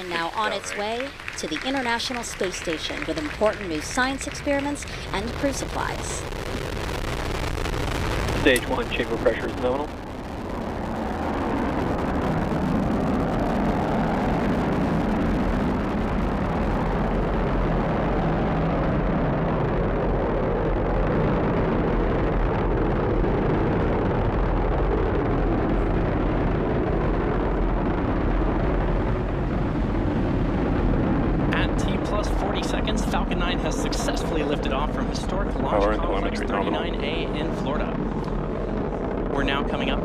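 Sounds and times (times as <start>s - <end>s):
rocket engines rumbling: 0.0s - 40.0s.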